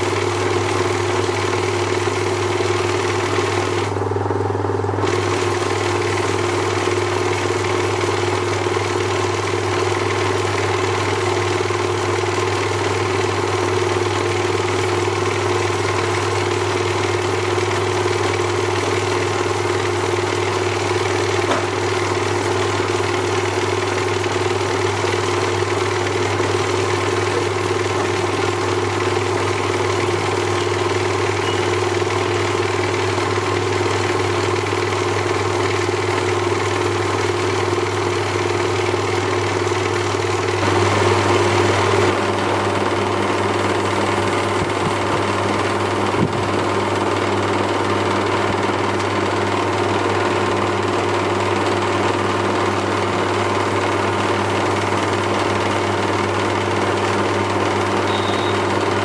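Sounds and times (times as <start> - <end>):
lathe motor humming: 0.0 - 59.0.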